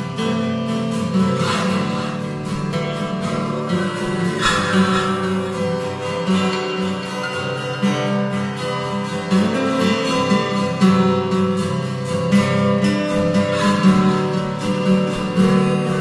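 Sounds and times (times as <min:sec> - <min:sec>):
instrumental music with ringing chords: 0:00.0 - 0:16.0.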